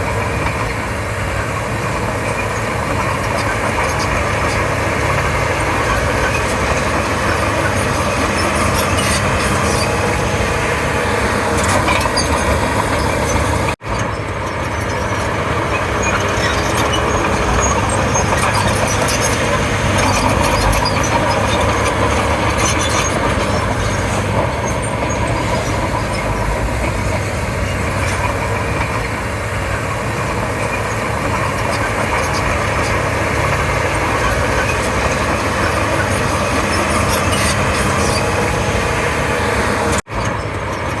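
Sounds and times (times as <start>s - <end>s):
bulldozer diesel engine running: 0.0s - 41.0s.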